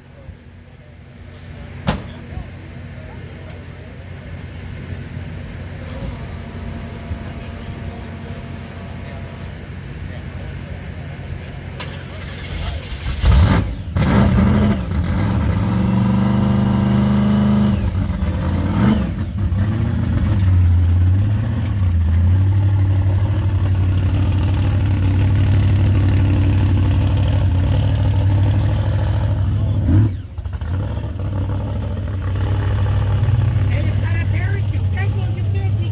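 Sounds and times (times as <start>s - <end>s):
car engine revving and idling: 0.2s - 35.9s.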